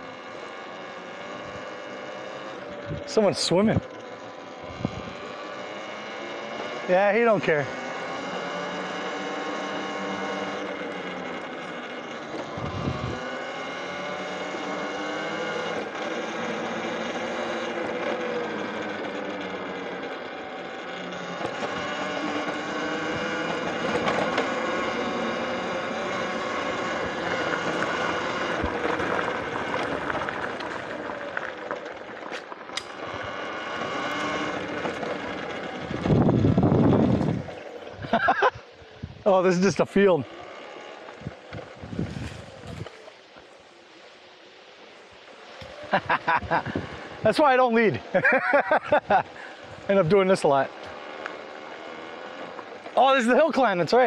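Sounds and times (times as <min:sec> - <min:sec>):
electric motor whining: 0:00.0 - 0:54.0.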